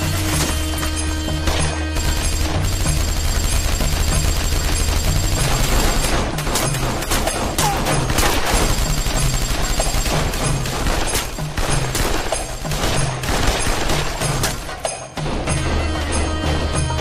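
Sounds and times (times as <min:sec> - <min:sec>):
heavy gunfire: 0:01.4 - 0:15.5.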